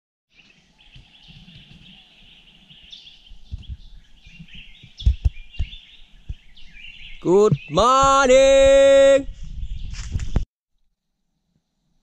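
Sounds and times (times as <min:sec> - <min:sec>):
small birds chirping: 0:00.3 - 0:10.4.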